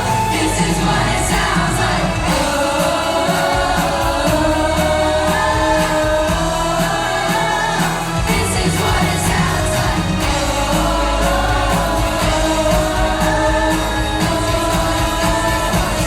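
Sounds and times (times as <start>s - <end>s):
children's choir singing: 0.0s - 16.0s
pop backing track with beat: 0.0s - 16.0s.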